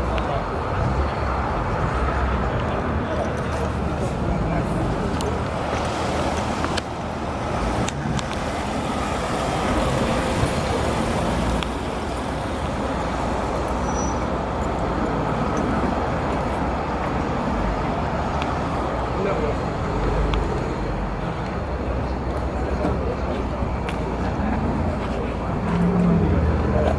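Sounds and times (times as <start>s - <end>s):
car engines rumbling: 0.0s - 26.9s.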